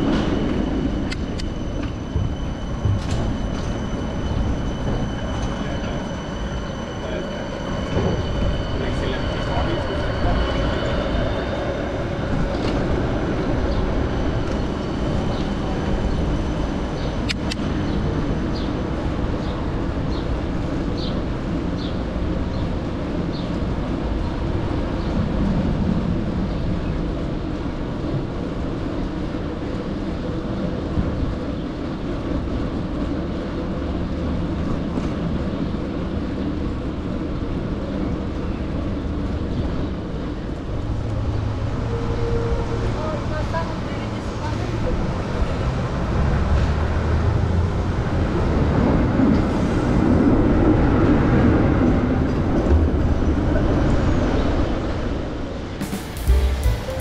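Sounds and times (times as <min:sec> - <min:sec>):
city traffic rumble: 0:00.0 - 0:57.0.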